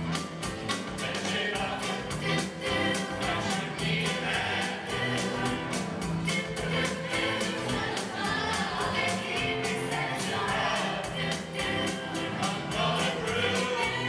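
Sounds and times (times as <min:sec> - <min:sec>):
band with quick drum beat: 0:00.0 - 0:14.0
choir singing: 0:01.0 - 0:14.0.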